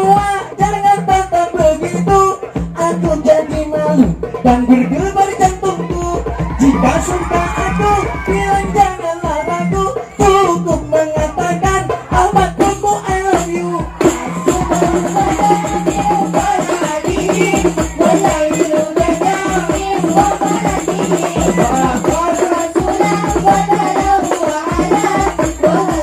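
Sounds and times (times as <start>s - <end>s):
hand-played frame drums: 0.0s - 26.0s
man singing through pa system: 0.0s - 26.0s.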